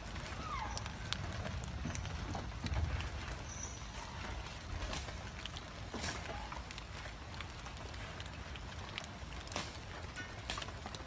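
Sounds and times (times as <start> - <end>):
faint raindrop taps: 0.0 - 11.0.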